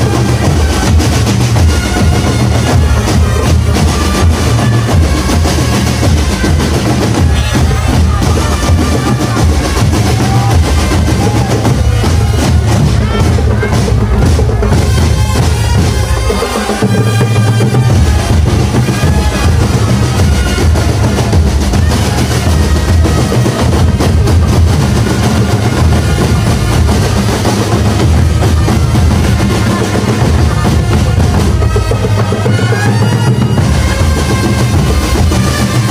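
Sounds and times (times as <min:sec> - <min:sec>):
bass drums: 0:00.0 - 0:35.9
snare drum rolls: 0:00.0 - 0:35.9.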